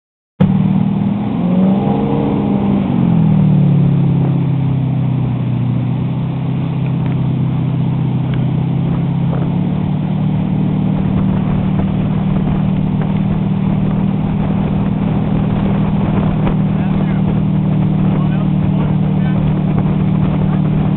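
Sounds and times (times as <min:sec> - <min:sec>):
motorboat engine running: 0:00.4 - 0:20.9
rushing water: 0:00.4 - 0:20.9.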